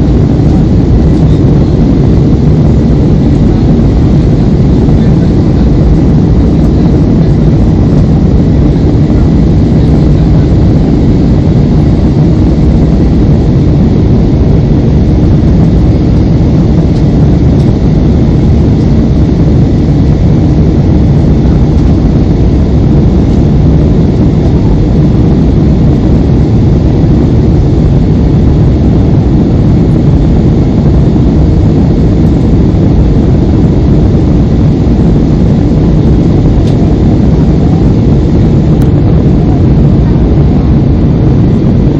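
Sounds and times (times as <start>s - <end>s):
jet engines rumbling: 0.0s - 41.9s
rushing air: 0.0s - 41.9s.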